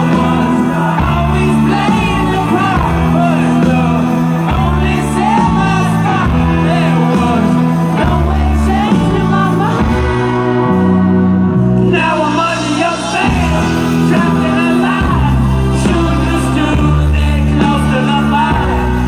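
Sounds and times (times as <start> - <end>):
bass line: 0.0 - 19.0
crowd shouting: 0.0 - 19.0
live rock band playing: 0.0 - 19.0.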